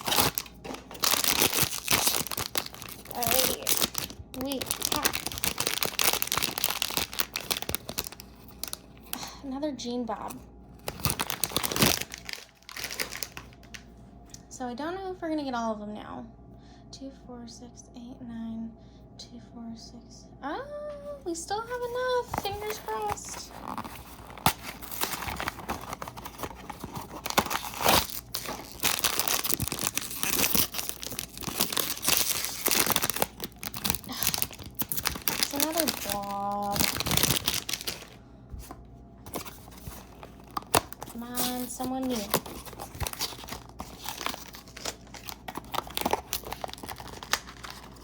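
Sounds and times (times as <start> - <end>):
package tearing and crinkling: 0.0 - 9.2, 10.8 - 13.9, 21.8 - 48.0.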